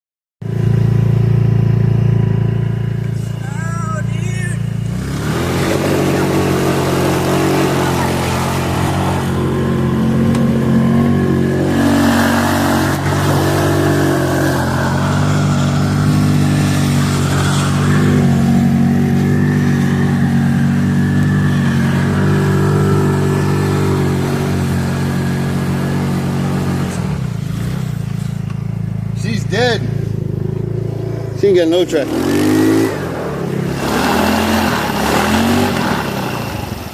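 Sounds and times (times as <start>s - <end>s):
car engine running: 0.4s - 36.9s.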